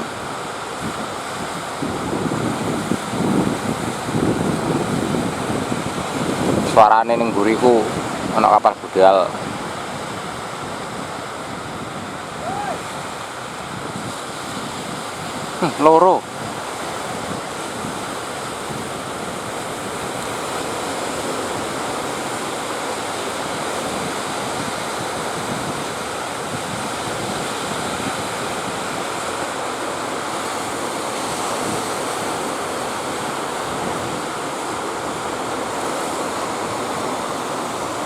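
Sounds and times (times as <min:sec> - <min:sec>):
breaking surf: 0:00.0 - 0:38.0
wind buffeting microphone: 0:00.0 - 0:38.0.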